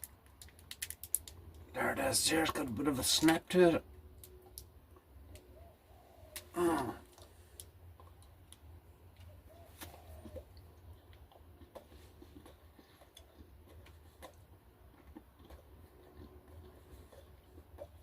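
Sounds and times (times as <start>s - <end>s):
mouth clicks while chewing: 0.0s - 1.7s, 4.2s - 18.0s
low steady hum: 0.0s - 18.0s.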